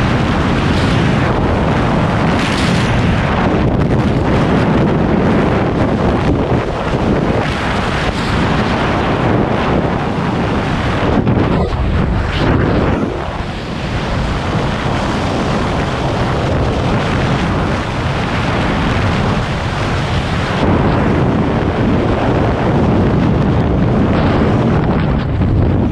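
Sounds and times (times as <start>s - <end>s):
freefall wind buffeting microphone: 0.0s - 25.9s.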